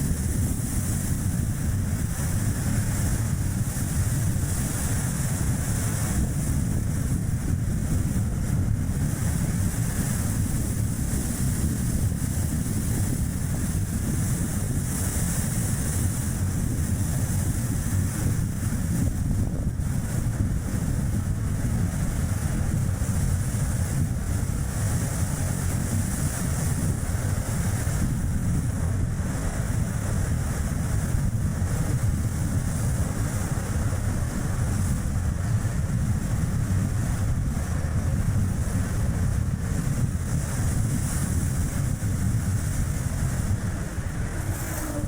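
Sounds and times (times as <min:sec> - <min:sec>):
car tyre and road noise: 0:00.0 - 0:45.0
wind rumbling on microphone: 0:00.0 - 0:45.0.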